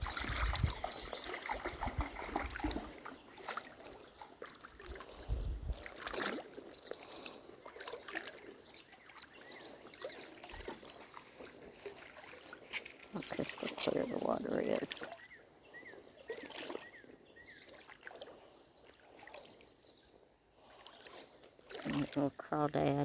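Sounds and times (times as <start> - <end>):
creek water trickling: 0.0 - 23.0
small birds chirping: 0.3 - 11.1, 11.9 - 20.3.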